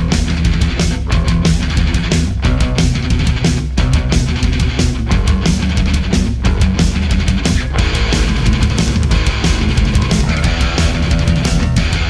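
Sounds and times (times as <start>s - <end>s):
drum hits: 0.0s - 12.0s
loud rock music: 0.0s - 12.0s.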